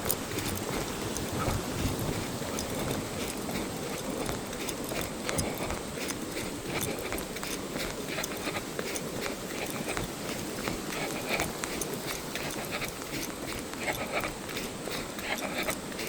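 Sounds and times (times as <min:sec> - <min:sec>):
running footsteps on trail: 0:00.0 - 0:16.0
steady rustling: 0:00.0 - 0:16.0.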